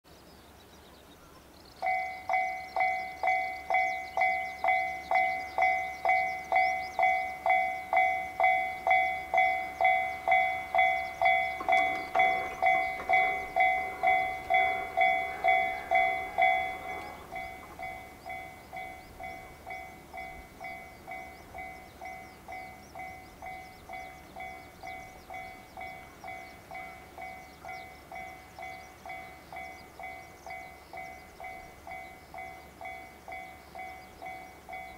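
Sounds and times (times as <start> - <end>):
level-crossing alarm ringing: 1.8 - 34.9.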